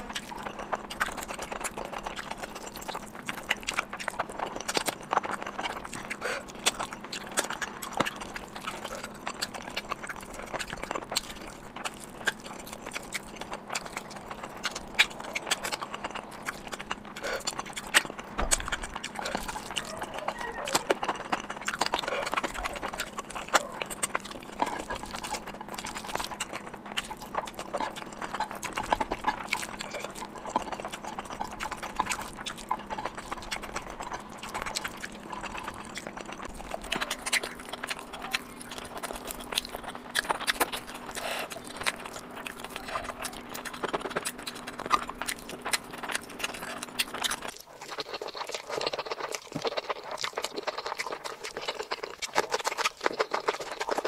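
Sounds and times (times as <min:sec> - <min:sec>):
faint steady hum: 0:00.0 - 0:54.0
lip smacks: 0:00.0 - 0:54.0
wet chewing clicks: 0:00.0 - 0:54.0.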